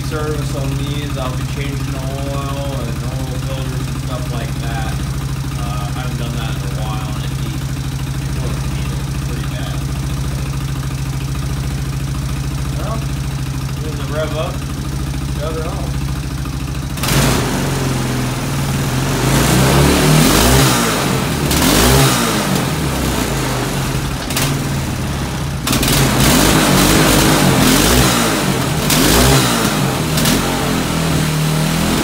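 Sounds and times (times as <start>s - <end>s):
atv engine revving: 0.0s - 32.0s.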